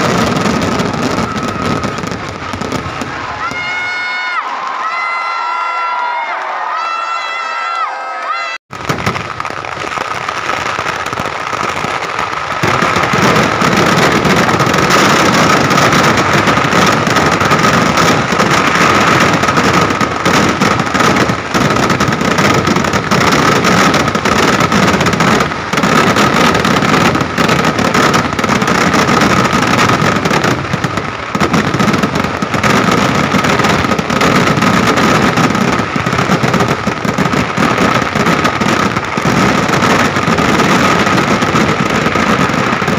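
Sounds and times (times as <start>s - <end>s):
fireworks exploding and crackling: 0.0s - 42.9s.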